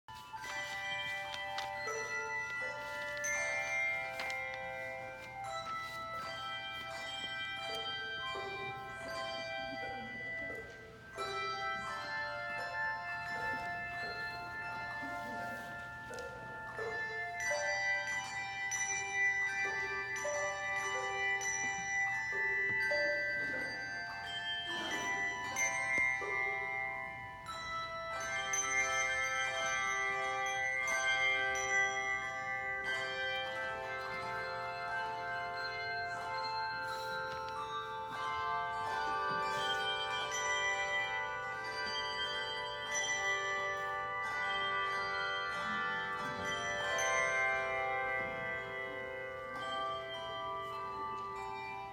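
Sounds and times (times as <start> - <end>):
handbells playing a tune: 0.0 - 51.9.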